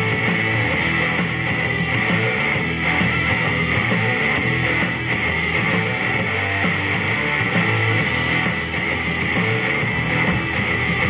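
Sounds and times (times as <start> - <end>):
rock music with distorted guitar: 0.0 - 11.0.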